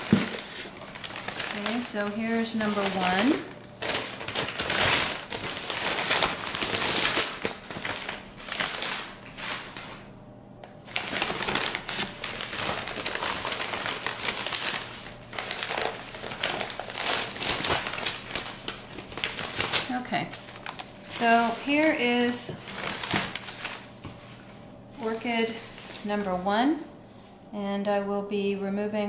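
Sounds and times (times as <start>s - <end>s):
shredded paper rustling: 0.0s - 10.1s, 10.8s - 26.7s.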